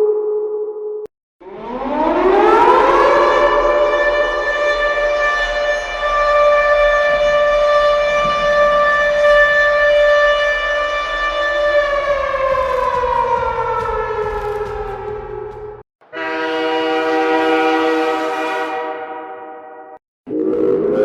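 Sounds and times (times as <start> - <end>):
home-run siren: 0.0 - 19.1.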